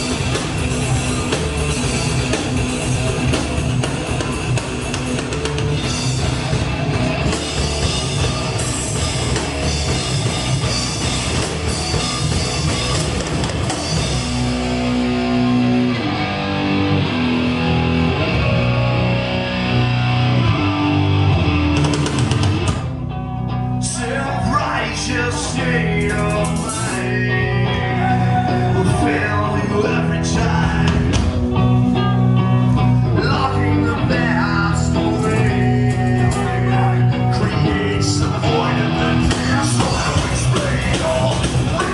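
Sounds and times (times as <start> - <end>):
metal band playing live: 0.0 - 41.9.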